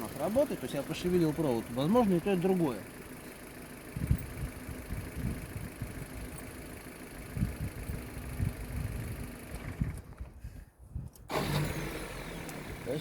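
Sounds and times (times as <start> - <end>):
petrol engine idling: 0.0 - 10.4, 11.3 - 13.0.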